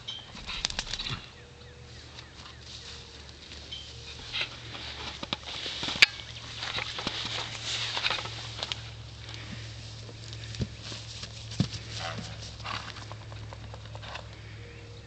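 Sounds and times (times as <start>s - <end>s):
grass rustling and crackling: 0.0s - 14.7s.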